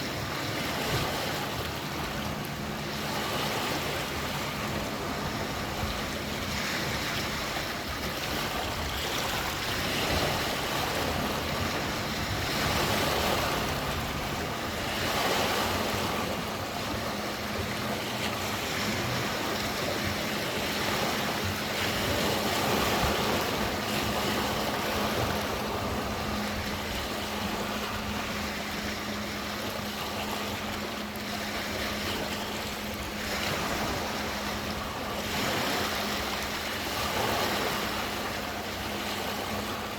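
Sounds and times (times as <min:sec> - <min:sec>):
lake waves washing in: 0:00.0 - 0:39.9.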